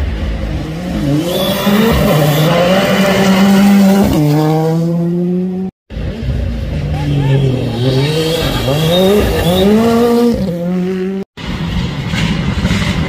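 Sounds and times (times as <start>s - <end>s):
rally car engine approaching: 0.0s - 13.0s.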